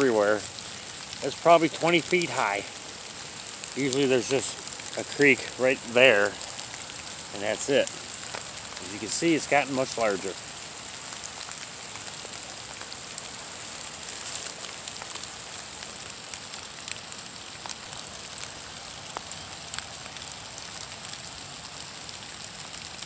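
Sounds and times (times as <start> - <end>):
drops ticking on leaves: 0.0 - 23.0
rain hissing on woods: 0.0 - 23.0.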